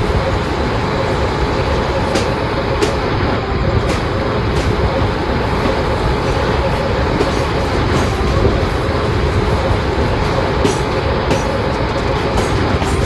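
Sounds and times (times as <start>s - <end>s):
electric train rumbling past: 0.0s - 13.0s.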